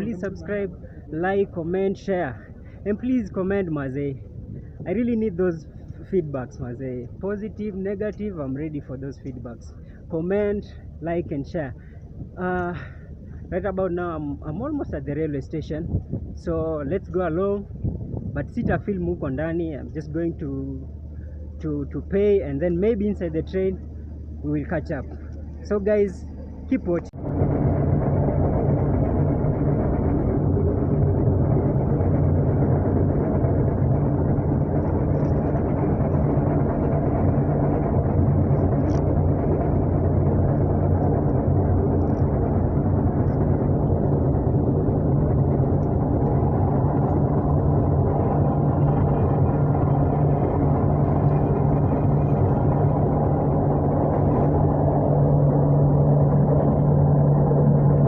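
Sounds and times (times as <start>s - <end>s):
vehicle engine droning: 0.0s - 58.0s.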